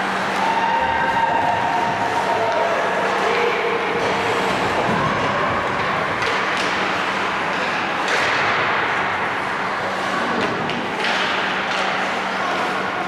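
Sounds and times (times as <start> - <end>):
sticks and puck clacking: 0.1 - 13.0.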